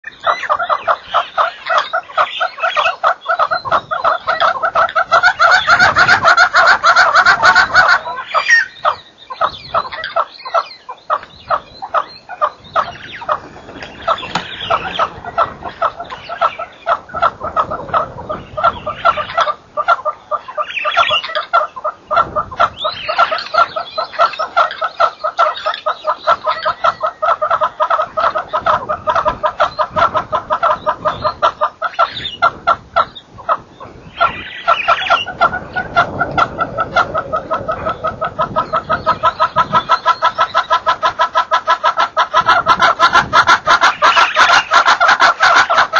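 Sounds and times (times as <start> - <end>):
birds calling in chorus: 0.0 - 45.9.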